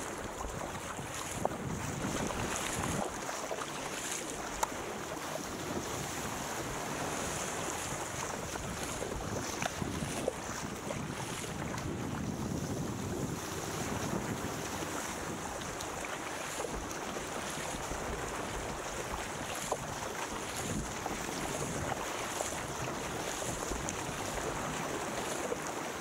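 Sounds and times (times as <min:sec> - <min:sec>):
wind buffeting microphone: 0:00.0 - 0:03.4, 0:05.3 - 0:25.4
water splashing along hull: 0:00.0 - 0:26.0.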